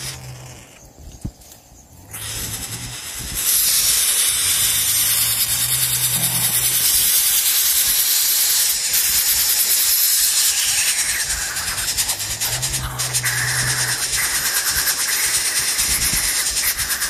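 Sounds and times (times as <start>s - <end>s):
nestlings hissing: 0.0s - 17.0s.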